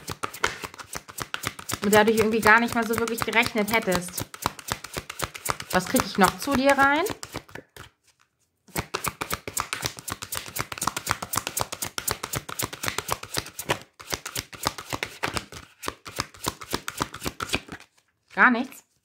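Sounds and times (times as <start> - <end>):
cards being shuffled: 0.0 - 19.0.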